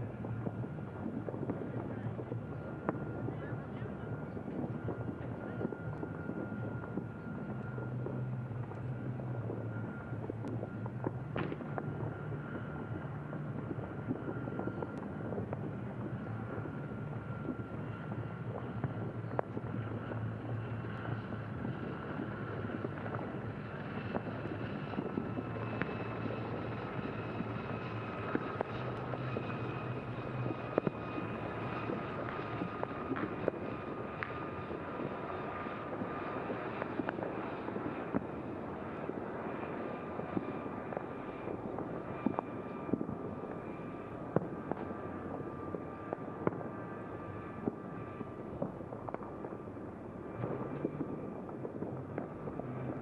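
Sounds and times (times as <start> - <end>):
distant fireworks din: 0.0 - 53.0
firecracker cracks and pops: 0.0 - 53.0
firework whistling: 0.1 - 53.0.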